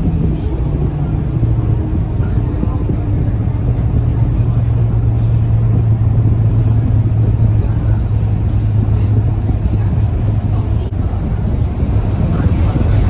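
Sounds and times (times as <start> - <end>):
bus diesel engine droning: 0.0 - 13.0
road rumble: 0.0 - 13.0.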